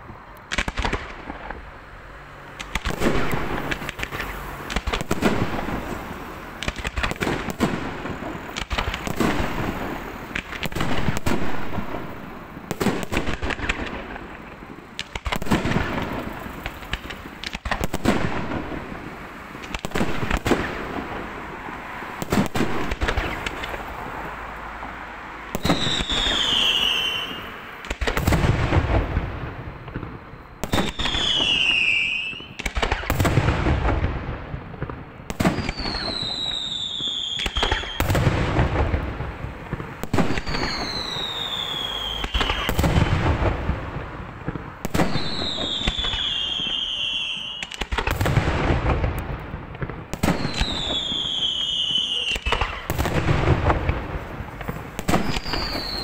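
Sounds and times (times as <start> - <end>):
whistling firework: 0.0 - 1.7, 2.4 - 56.0
fireworks booming and crackling: 0.0 - 56.0.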